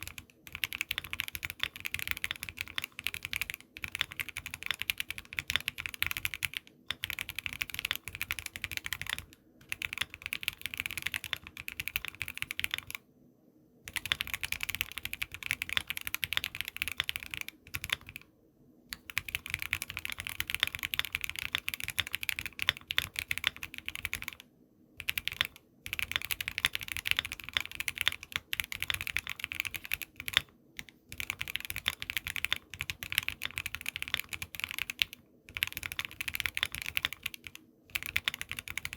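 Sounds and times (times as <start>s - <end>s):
fast typing on mechanical keyboard: 0.0s - 13.0s, 13.9s - 18.2s, 18.9s - 24.4s, 25.0s - 38.9s.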